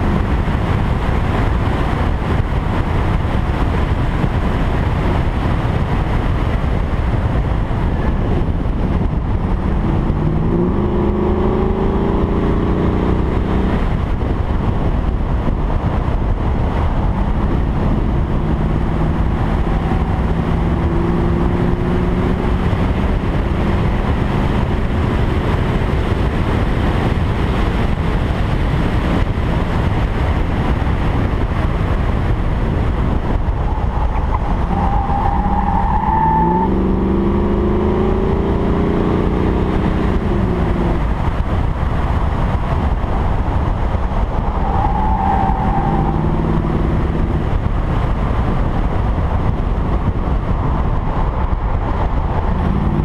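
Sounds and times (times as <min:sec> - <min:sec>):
car engine revving: 0:00.0 - 0:15.3, 0:16.0 - 0:53.0
road rush: 0:00.0 - 0:53.0
wind noise: 0:00.0 - 0:53.0.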